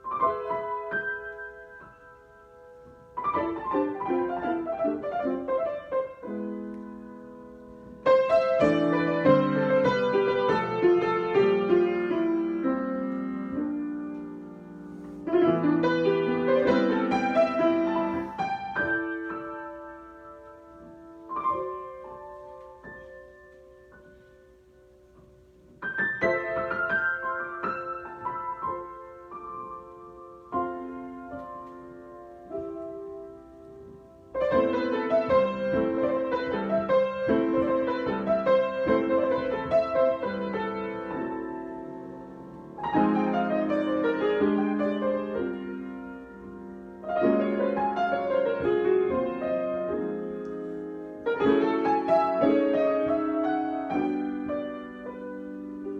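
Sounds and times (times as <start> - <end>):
solo piano: 0.0 - 55.9.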